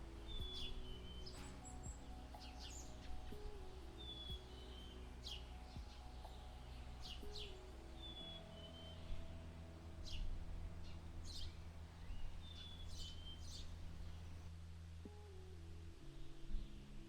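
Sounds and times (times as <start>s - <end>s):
small birds chirping: 0.0s - 14.5s
ambient music drone: 0.0s - 17.0s.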